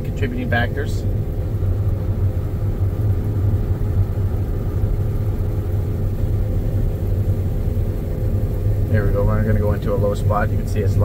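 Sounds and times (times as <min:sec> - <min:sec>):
combine harvester droning: 0:00.0 - 0:11.0.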